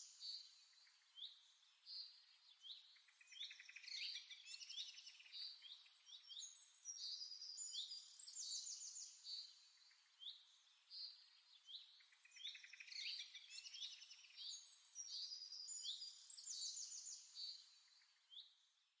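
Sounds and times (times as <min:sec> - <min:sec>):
songbird chirps and trills: 0:00.0 - 0:19.0.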